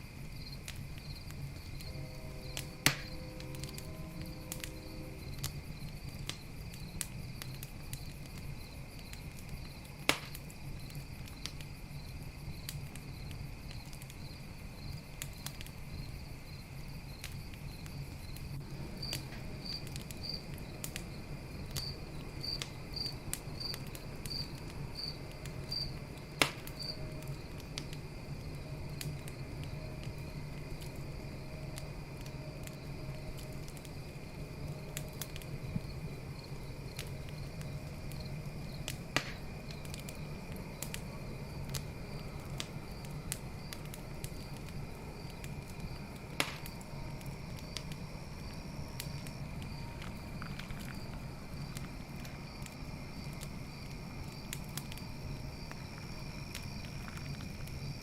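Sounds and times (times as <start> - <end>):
campfire crackling and popping: 0.0 - 58.0
crickets trilling: 0.0 - 58.0
insect chirping in regular pulse: 0.0 - 58.0
fire snapping loudly: 0.5 - 15.8, 17.2 - 58.0.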